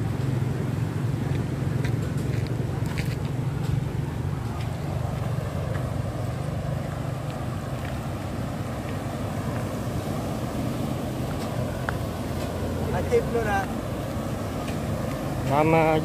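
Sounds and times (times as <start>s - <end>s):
water rushing through sluice: 0.0s - 16.0s.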